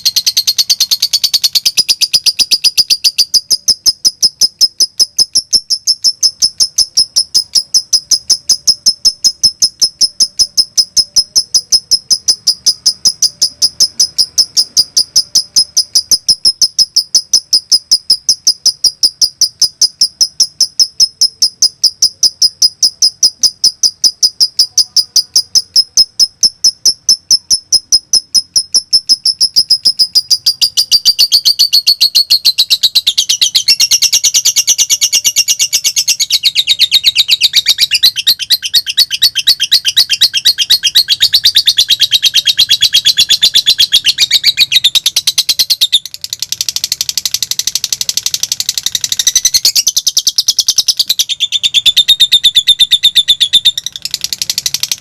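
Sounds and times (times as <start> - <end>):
lovebird chirping: 0.0 - 55.0.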